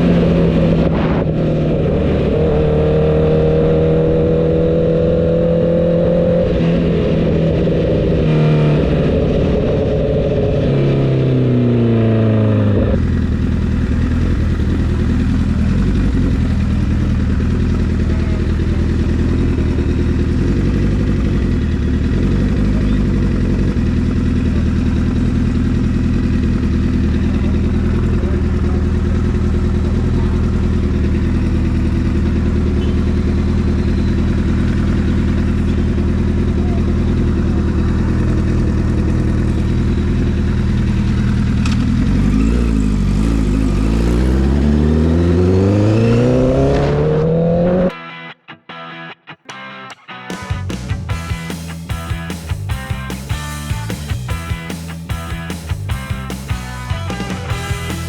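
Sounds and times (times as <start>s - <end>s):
motorcycle engine running: 0.0s - 47.9s, 50.3s - 58.0s.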